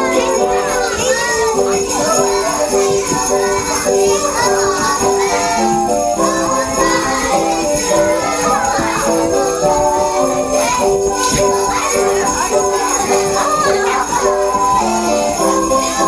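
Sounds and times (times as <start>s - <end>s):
instrumental music: 0.0s - 16.0s
sleigh bells jingling: 0.0s - 16.0s.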